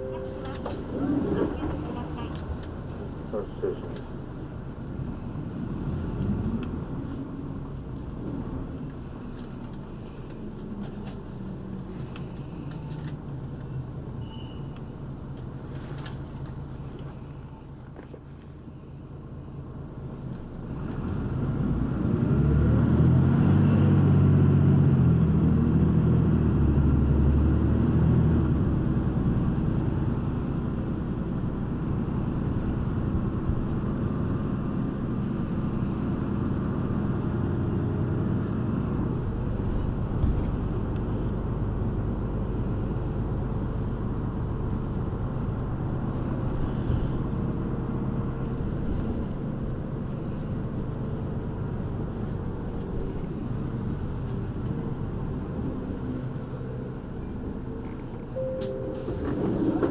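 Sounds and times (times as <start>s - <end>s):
bus engine accelerating: 0.0s - 59.9s
road noise: 0.0s - 59.9s.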